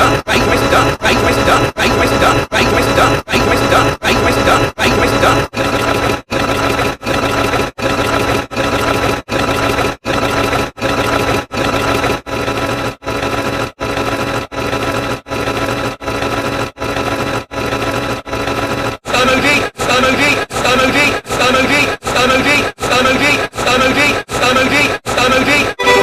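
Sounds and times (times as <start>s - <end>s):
loud noisy sound effect: 0.0s - 26.0s.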